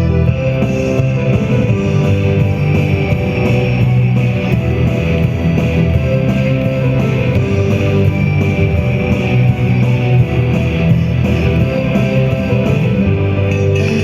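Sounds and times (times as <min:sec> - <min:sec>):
rock music with guitar: 0:00.0 - 0:14.0
steady drum beat: 0:00.3 - 0:14.0.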